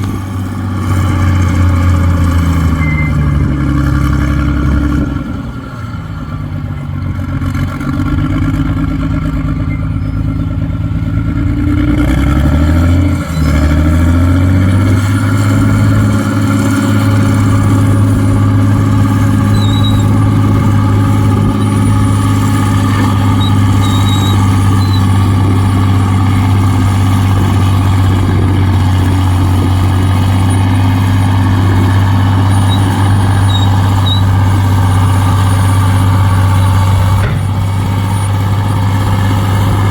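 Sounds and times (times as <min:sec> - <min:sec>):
heavy diesel engine revving: 0:00.0 - 0:39.9.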